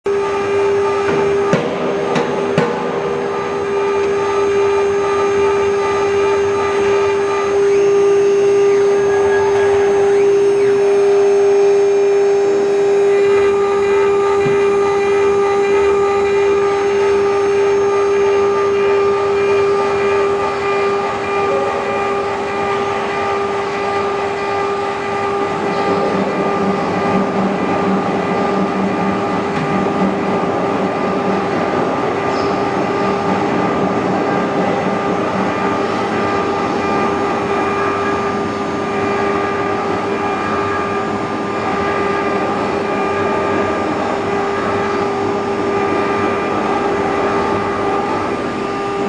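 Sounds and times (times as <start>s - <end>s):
router spindle whine: 0.0s - 49.0s.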